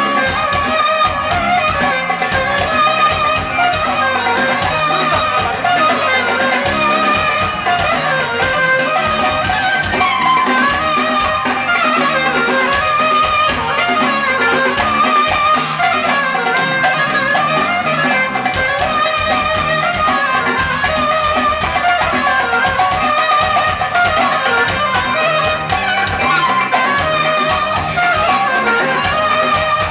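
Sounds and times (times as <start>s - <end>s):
live band music: 0.0s - 29.9s.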